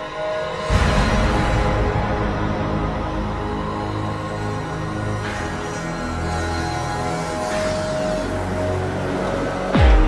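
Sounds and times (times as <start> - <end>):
background music with sustained tones: 0.0 - 10.0.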